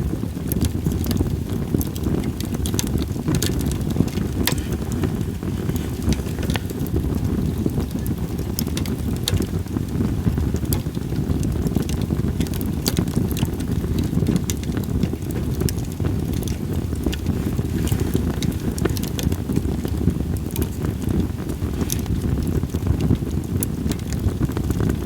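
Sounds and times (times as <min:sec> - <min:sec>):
campfire crackling and popping: 0:00.0 - 0:25.0
wind rumble on microphone: 0:00.0 - 0:25.0.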